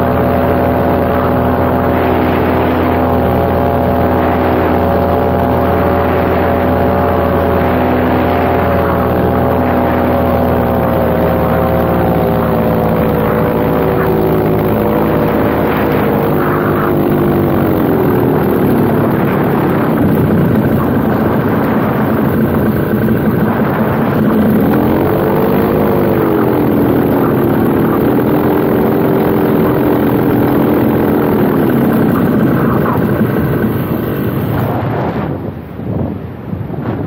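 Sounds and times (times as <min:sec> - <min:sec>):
paramotor engine and propeller: 0:00.0 - 0:37.0
wind on microphone: 0:00.0 - 0:37.0.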